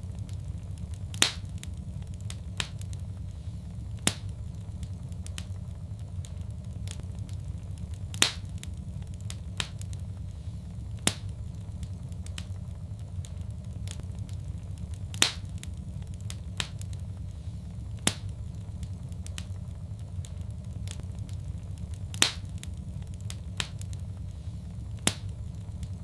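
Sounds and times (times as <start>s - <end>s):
low rumble of burning fire: 0.0s - 26.0s
wood fire popping: 0.0s - 26.0s.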